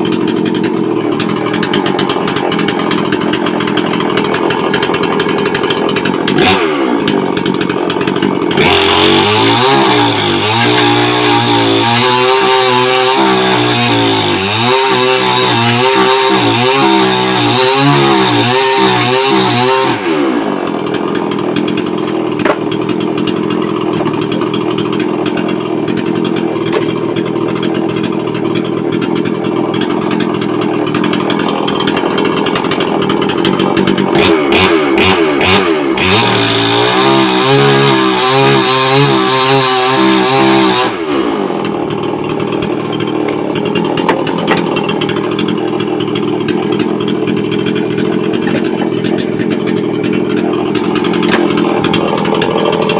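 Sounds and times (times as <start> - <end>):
chainsaw engine revving: 0.0 - 52.9.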